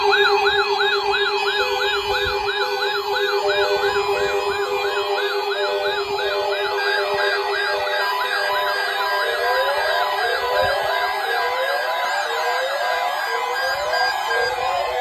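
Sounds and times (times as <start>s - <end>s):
electronic siren wailing: 0.0s - 15.0s.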